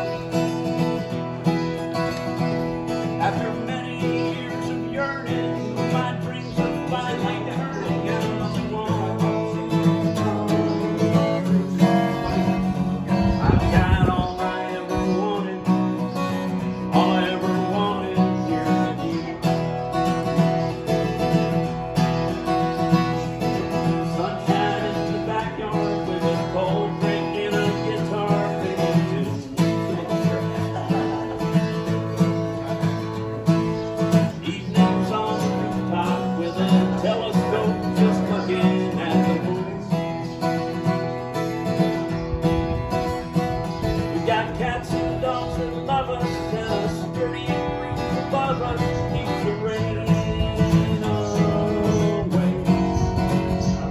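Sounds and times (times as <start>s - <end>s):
acoustic guitar strummed and picked: 0.0s - 53.9s.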